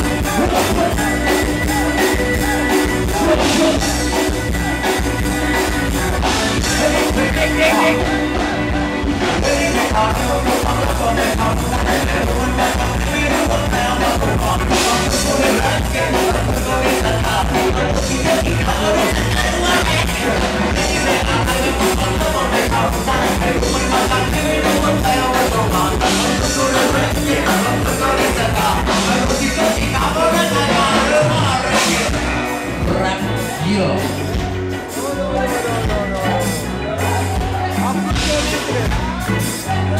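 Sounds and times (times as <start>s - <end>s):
music with driving beat: 0.0s - 39.9s
person singing: 0.0s - 39.9s.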